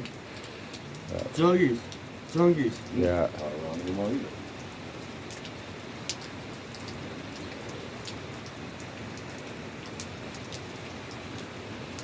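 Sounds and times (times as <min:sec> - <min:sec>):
close raindrops ticking: 0:00.0 - 0:12.0
steady rain hiss: 0:00.0 - 0:12.0.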